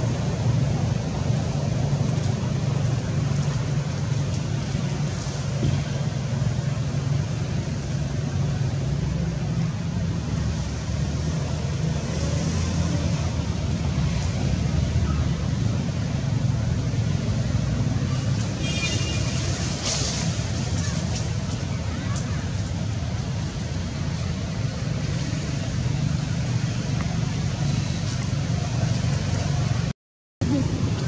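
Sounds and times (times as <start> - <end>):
constant hiss: 0.0 - 31.0.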